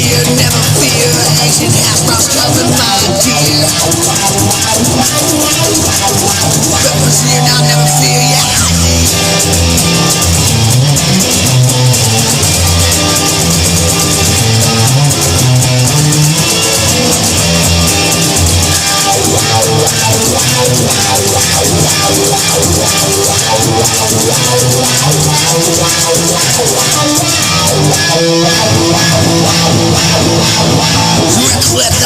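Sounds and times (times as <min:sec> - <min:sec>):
bass guitar: 0:00.0 - 0:32.0
drum kit: 0:00.0 - 0:32.0
electric guitar: 0:00.0 - 0:32.0.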